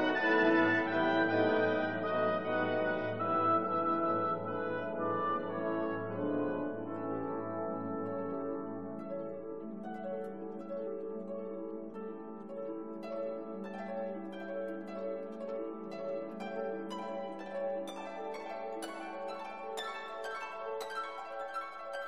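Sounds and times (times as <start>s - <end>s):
plucked harp-like melody: 0.0s - 22.0s.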